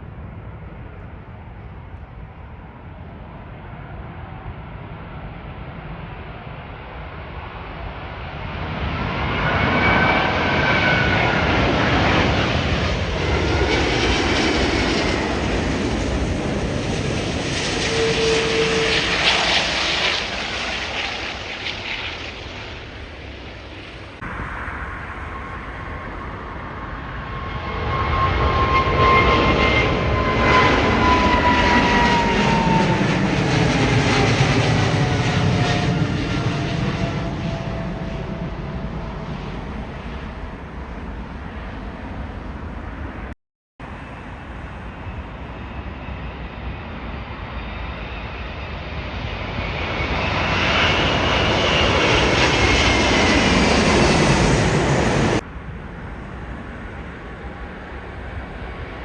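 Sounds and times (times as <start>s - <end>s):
jet airliner passing: 0.0s - 59.0s.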